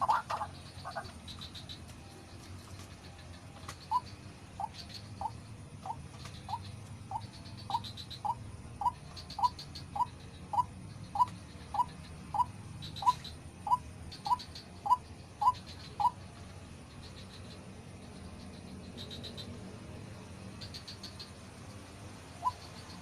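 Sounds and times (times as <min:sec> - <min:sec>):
bird calling upswept notes: 0:00.0 - 0:19.7, 0:20.5 - 0:23.0.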